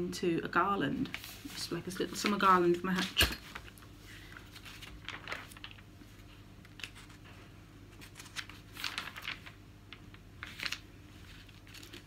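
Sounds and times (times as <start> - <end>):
magazine pages rustling: 1.0 - 12.0.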